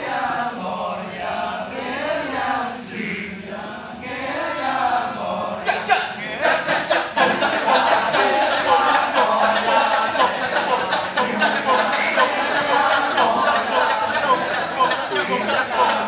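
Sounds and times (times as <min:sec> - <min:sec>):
men's chorus chanting: 0:00.0 - 0:16.0
rapid rhythmic chanting: 0:00.0 - 0:16.0.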